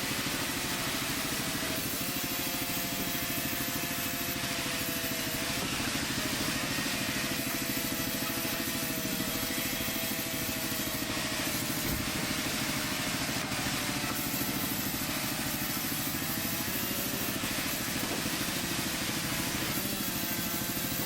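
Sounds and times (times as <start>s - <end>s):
saw machine droning: 0.0s - 21.0s.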